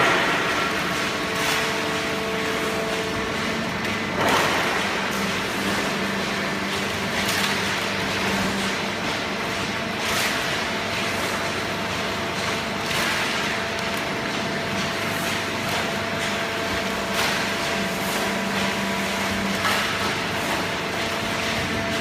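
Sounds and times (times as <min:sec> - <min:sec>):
baler machine hum and whine: 0:00.0 - 0:22.0.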